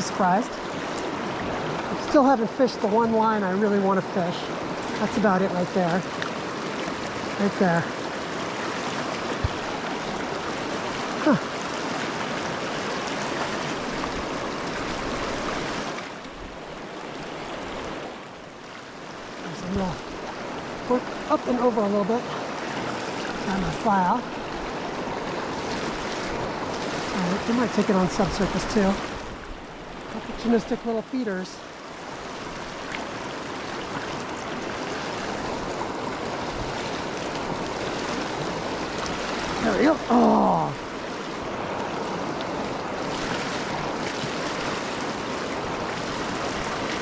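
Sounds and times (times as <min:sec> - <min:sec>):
stream flowing over rocks: 0:00.0 - 0:47.0.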